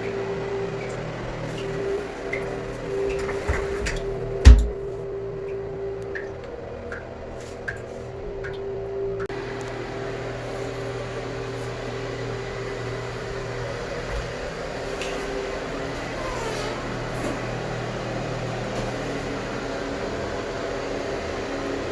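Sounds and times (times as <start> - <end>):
steady mechanical hum: 0.0 - 21.9.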